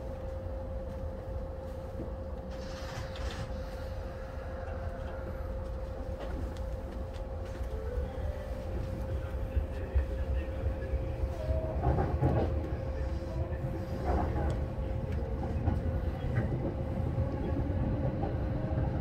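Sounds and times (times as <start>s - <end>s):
constant hum: 0.0s - 19.0s
train rumbling: 0.0s - 19.0s.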